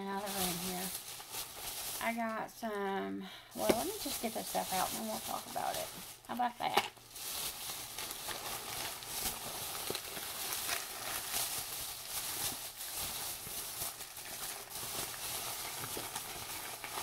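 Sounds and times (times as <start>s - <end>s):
shopping bag rustling and crinkling: 0.0s - 2.4s, 3.5s - 17.0s.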